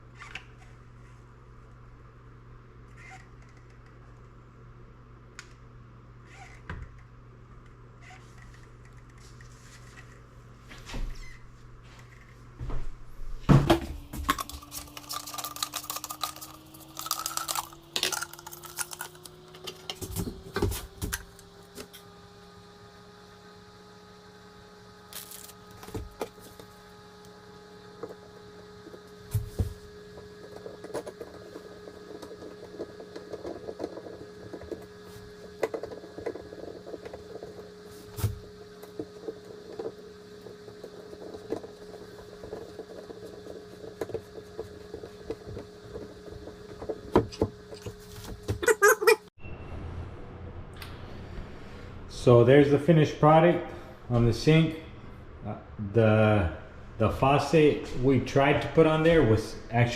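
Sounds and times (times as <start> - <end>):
motor hum: 0.0 - 49.4.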